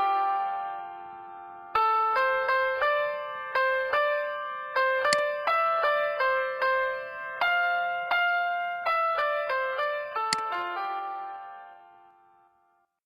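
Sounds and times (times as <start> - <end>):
keyboard melody: 0.0 - 12.4.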